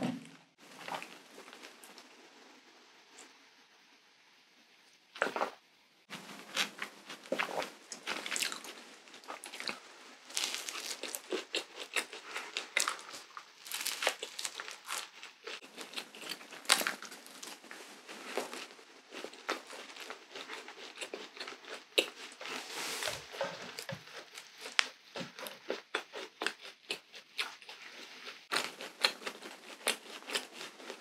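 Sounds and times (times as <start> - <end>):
chewing and crunching food: 0.6 - 2.2, 5.2 - 31.0.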